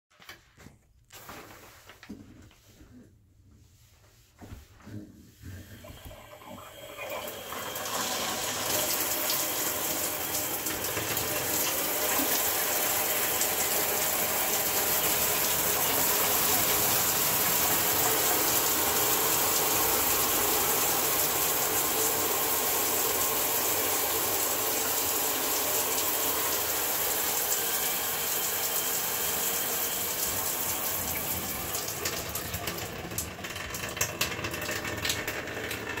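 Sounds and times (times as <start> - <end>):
shower water spraying and splashing: 5.8 - 35.3.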